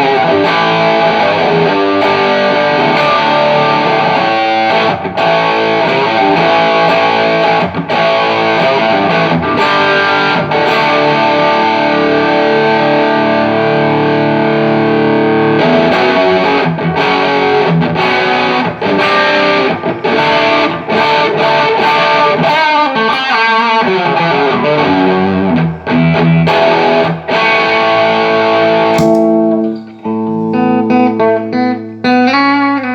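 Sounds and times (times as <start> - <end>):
distorted electric guitar: 0.0 - 32.9.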